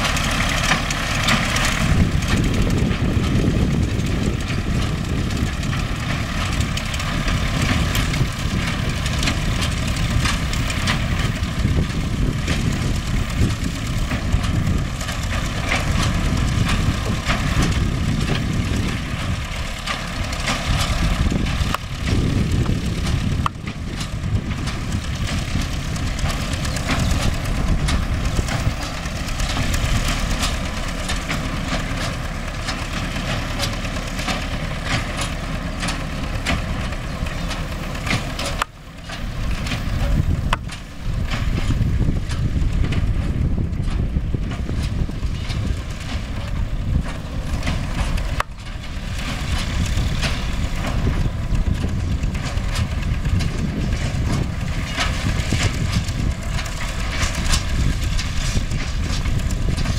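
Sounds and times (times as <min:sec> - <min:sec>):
machinery clacks and knocks: 0:00.0 - 0:59.9
machinery whine: 0:00.0 - 0:59.9
tractor diesel engine running: 0:00.0 - 0:59.9.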